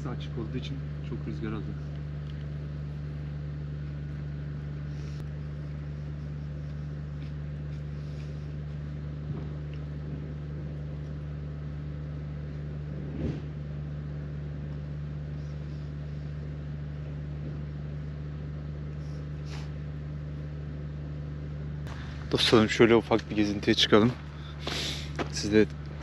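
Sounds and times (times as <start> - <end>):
generator engine humming: 0.0 - 26.0.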